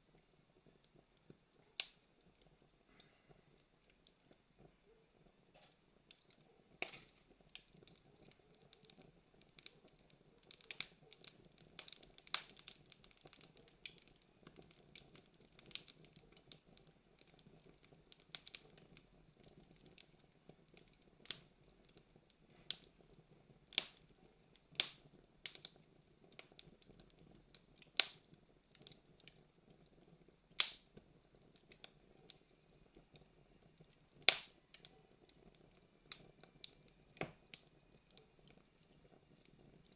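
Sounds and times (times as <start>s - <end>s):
burning wood popping: 0.0s - 39.9s.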